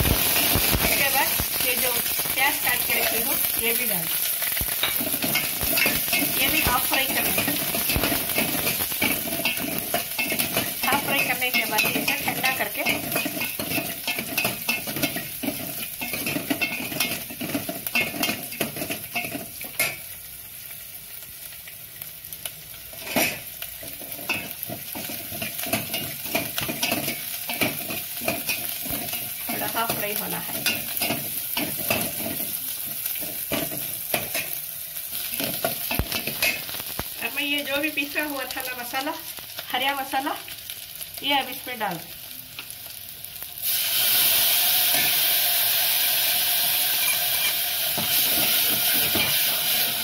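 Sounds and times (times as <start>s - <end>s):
onions sizzling in hot oil: 0.0s - 50.0s.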